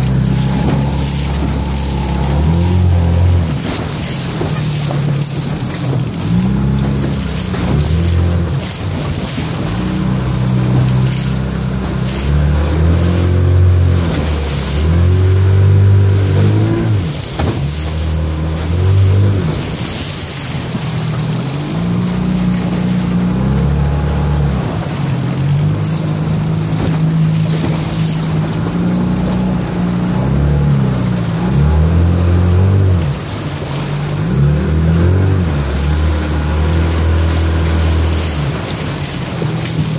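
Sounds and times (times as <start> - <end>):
outboard motor running: 0.0 - 39.9
wind and water rushing: 0.0 - 39.9.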